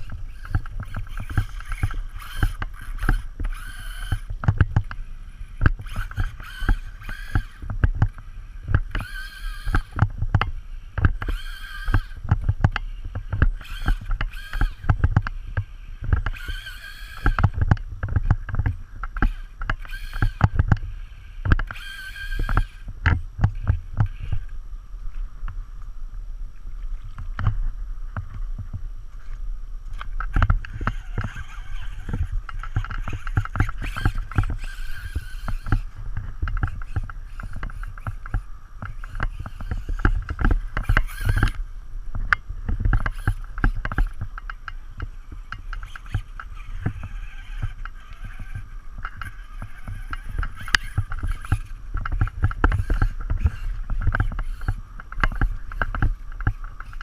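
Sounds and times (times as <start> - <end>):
irregular clicks and knocks: 0.0 - 5.0, 5.6 - 24.5, 28.2 - 57.0
rc truck motor whine: 0.0 - 57.0.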